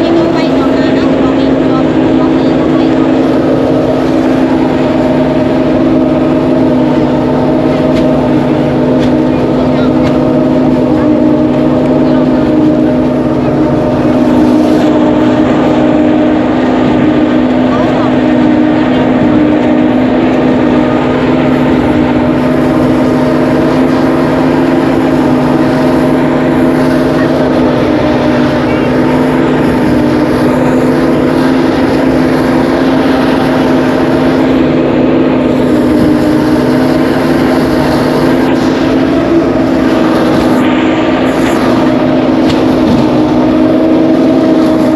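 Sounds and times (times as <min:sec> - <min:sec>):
threshing machine running: 0:00.0 - 0:44.9.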